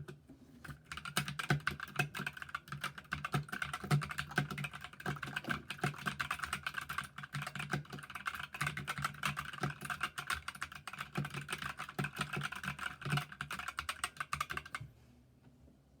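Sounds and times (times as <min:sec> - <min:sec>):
typing on mechanical keyboard: 0:00.6 - 0:14.8.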